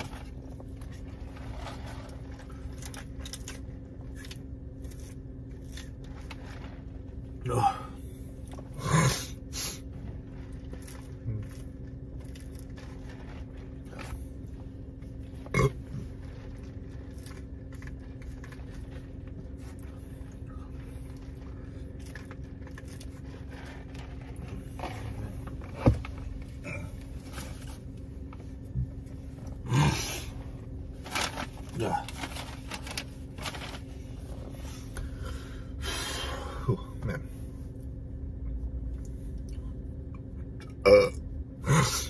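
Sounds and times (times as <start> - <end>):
car cabin hum: 0.0 - 42.0.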